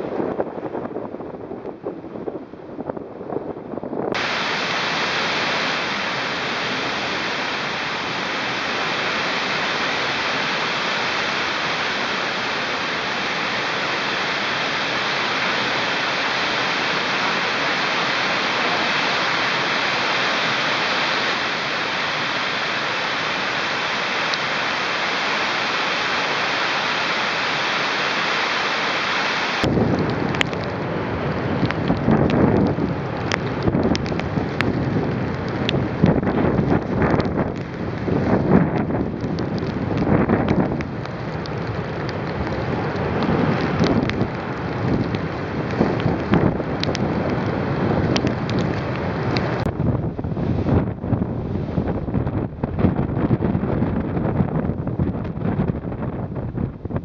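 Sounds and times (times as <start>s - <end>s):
driving rain: 0.0s - 57.0s
hurricane wind: 0.0s - 57.0s.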